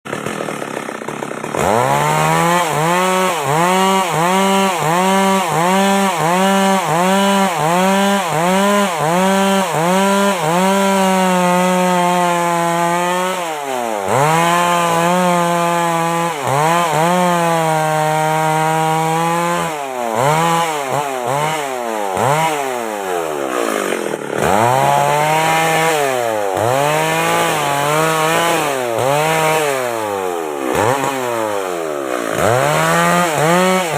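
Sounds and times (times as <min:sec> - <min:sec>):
chainsaw cutting through log: 0:00.0 - 0:33.9.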